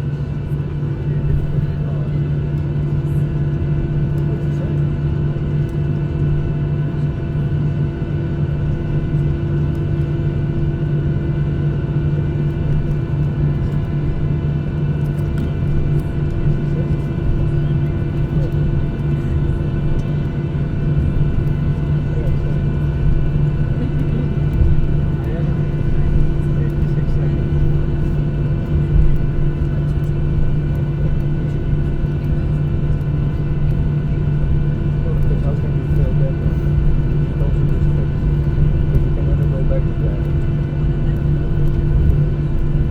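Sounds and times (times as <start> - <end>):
jet engine cabin drone: 0.0 - 42.9.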